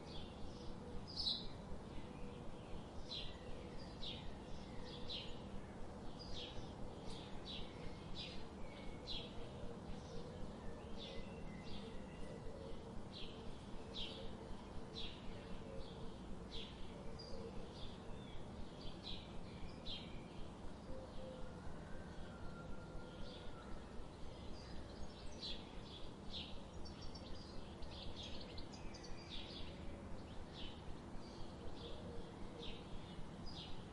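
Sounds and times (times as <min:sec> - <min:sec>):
steady low background noise: 0:00.0 - 0:33.9.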